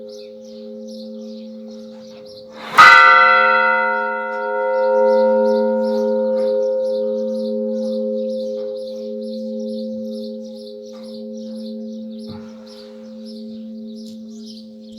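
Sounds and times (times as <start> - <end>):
church bell ringing: 0.0 - 14.9.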